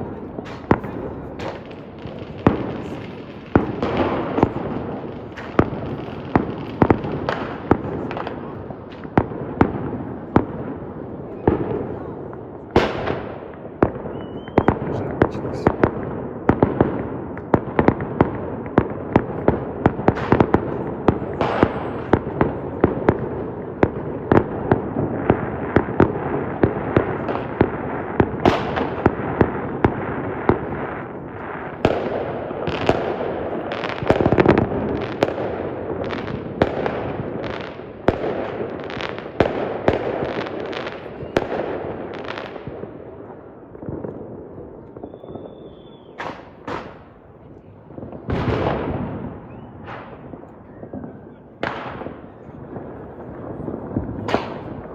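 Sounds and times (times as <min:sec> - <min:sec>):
fireworks bangs: 0:00.0 - 0:54.9
fireworks crackling: 0:00.0 - 0:54.9.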